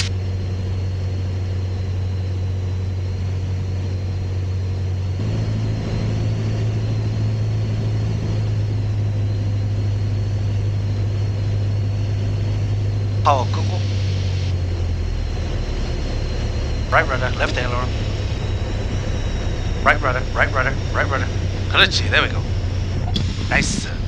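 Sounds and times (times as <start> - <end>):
propeller aircraft engine droning: 0.0 - 24.0.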